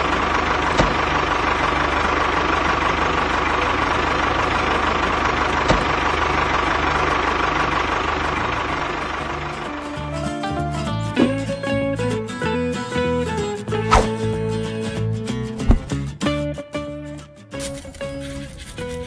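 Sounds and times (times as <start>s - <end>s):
tractor engine chugging: 0.0s - 16.1s.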